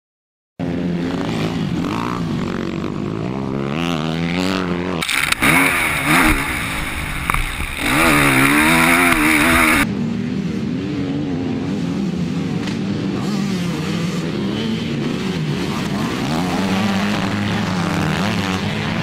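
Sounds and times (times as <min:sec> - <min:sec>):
motocross bike engines revving: 0:00.6 - 0:19.0.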